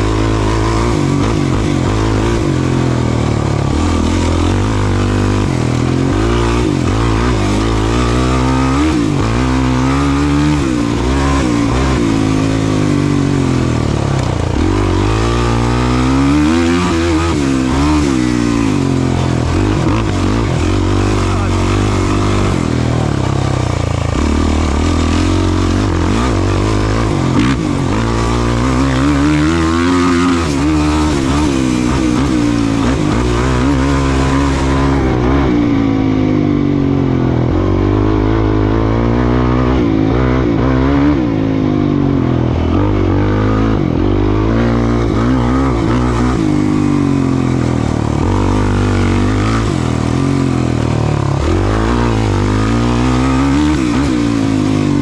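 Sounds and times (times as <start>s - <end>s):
racing engine revving: 0.0s - 55.0s.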